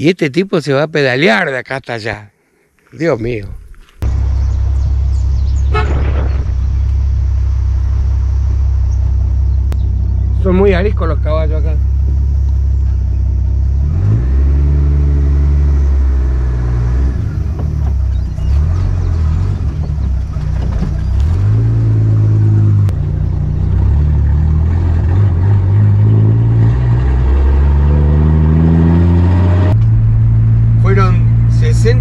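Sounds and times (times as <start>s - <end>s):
car engine accelerating: 4.0s - 32.0s.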